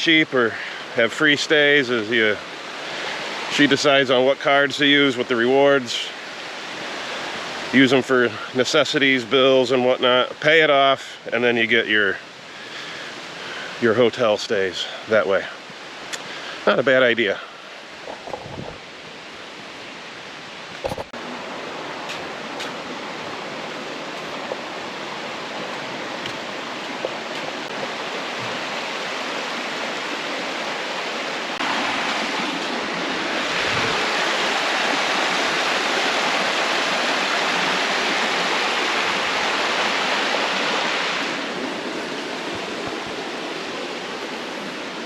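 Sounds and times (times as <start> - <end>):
stream water flowing: 0.0 - 45.0.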